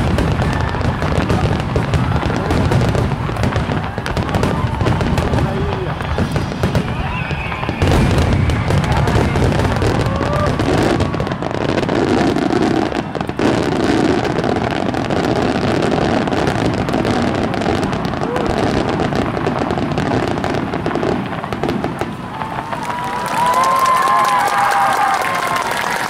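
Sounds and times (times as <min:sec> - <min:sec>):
firework booms: 0:00.0 - 0:23.5
firework crackling: 0:00.0 - 0:26.0.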